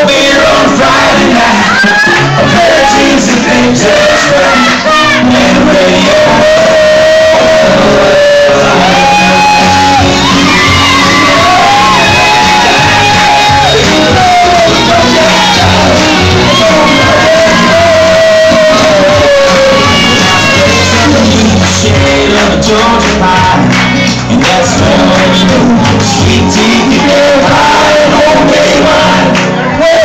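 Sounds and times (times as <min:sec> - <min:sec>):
people shouting along: 0:00.0 - 0:21.6, 0:24.5 - 0:30.0
loud amplified music: 0:00.0 - 0:30.0
person singing long notes: 0:00.0 - 0:30.0.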